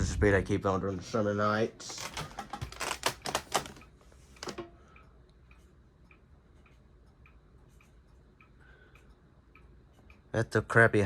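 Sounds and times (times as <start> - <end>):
ceiling fan hum: 0.0 - 11.0
mechanical clock ticking: 1.8 - 11.0.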